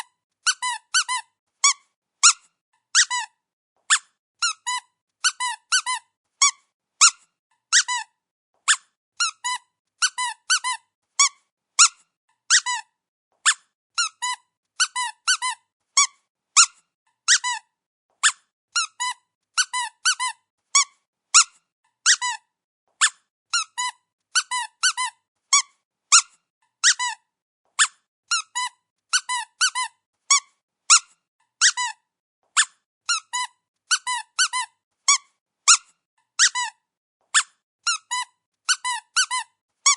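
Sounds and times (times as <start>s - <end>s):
rubber squeaky toy squeaking: 0.0s - 39.9s.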